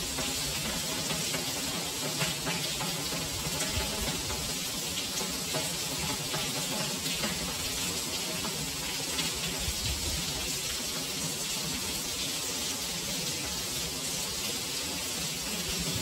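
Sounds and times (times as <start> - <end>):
heavy rain on paving: 0.0 - 16.0.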